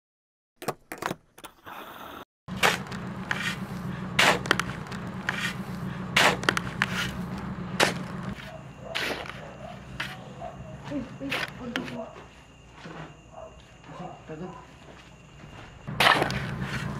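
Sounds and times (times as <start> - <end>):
feet scuffing through dirt: 2.6 - 14.0, 14.6 - 16.9.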